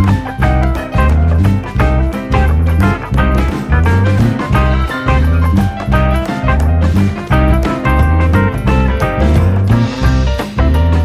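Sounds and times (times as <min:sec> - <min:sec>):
music with bass beat and plucked guitar: 0:00.0 - 0:11.0.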